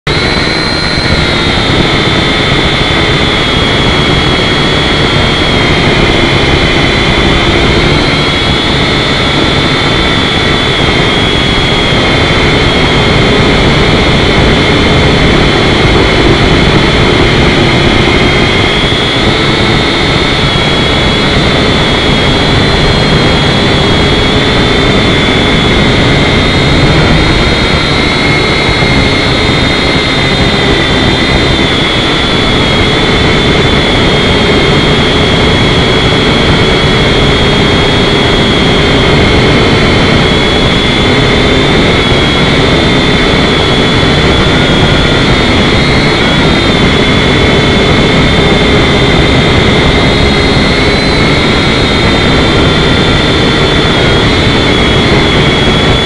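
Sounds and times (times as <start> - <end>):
drone propellers whining: 0.1 - 56.0.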